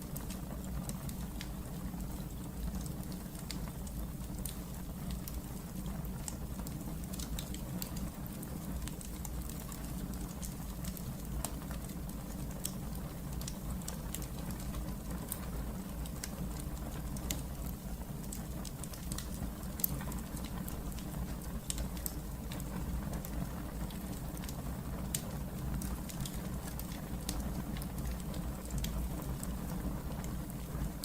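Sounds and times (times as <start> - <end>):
low rumble of burning: 0.0 - 31.0
wood fire crackling: 0.0 - 31.0.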